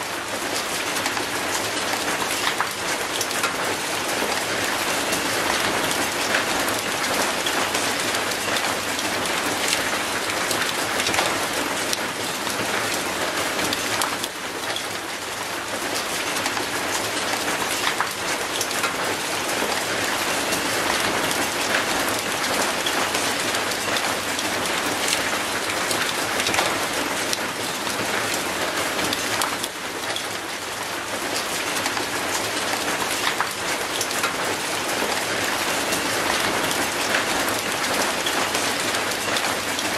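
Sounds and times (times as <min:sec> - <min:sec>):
rain on concrete and metal: 0:00.0 - 0:39.9.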